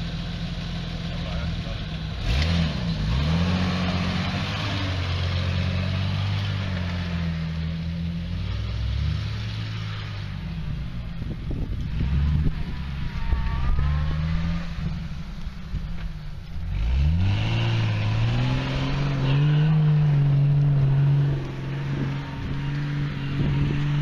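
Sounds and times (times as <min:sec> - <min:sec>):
vehicle engine revving: 0:00.0 - 0:24.0.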